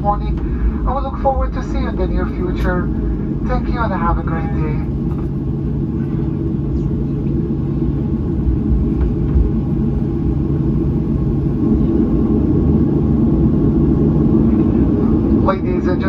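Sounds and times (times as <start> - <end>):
faint steady hum: 0.0 - 16.0
jet engines at taxi power: 0.0 - 16.0.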